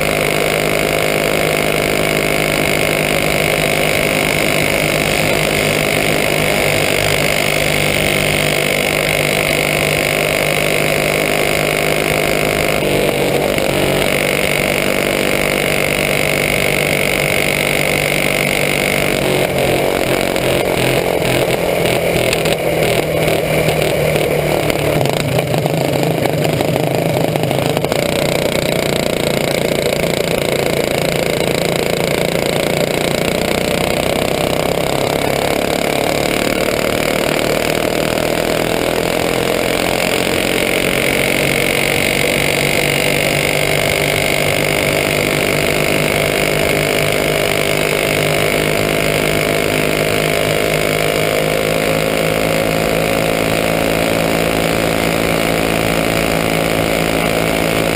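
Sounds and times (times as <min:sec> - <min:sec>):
kart engine at speed: 0:00.0 - 0:57.9.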